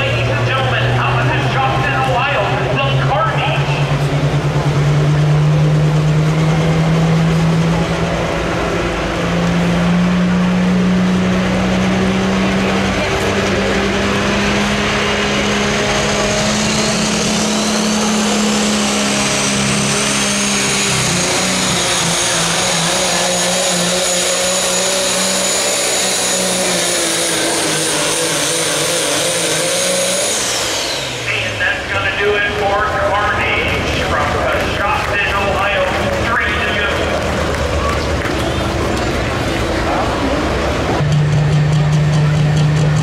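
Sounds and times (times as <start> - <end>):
diesel truck engine under load: 0.0 - 43.0.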